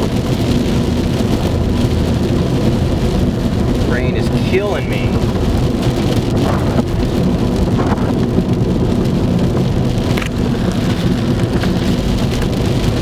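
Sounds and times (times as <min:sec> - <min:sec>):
heavy rain on car roof: 0:00.0 - 0:13.0
low driving rumble: 0:00.0 - 0:13.0.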